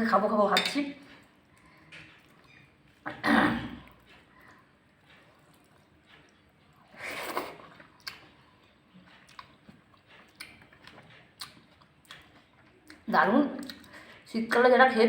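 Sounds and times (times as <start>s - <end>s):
person chewing food: 1.0s - 3.1s, 3.7s - 14.2s.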